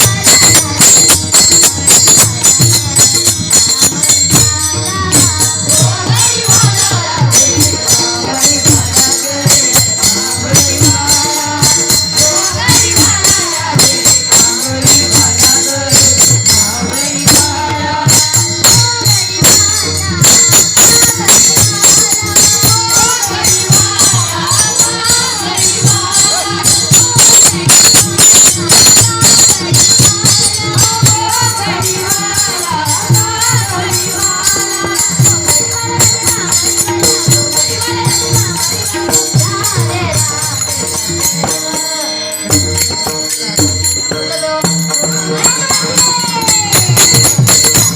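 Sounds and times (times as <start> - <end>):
percussion beat: 0.0 - 47.9
person singing: 3.8 - 47.9.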